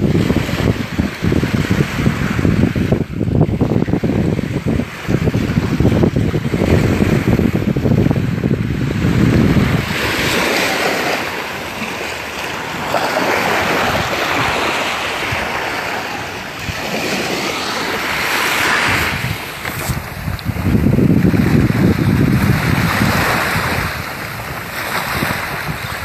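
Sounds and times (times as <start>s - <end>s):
small waves washing on sand: 0.0s - 26.0s
wind buffeting microphone: 0.0s - 26.0s.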